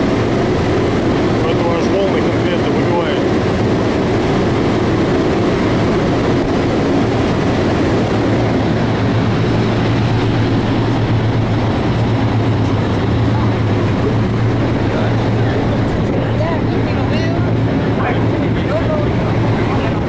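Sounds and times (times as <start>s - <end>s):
ferry engine drone: 0.0s - 20.0s
water churning: 0.0s - 20.0s
wind rushing: 0.0s - 20.0s.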